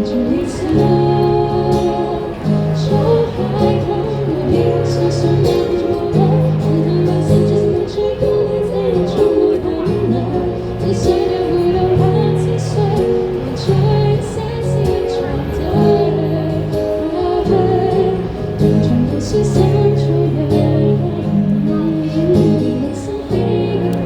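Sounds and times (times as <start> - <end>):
live band playing pop song: 0.0 - 24.0
person singing: 0.0 - 24.0.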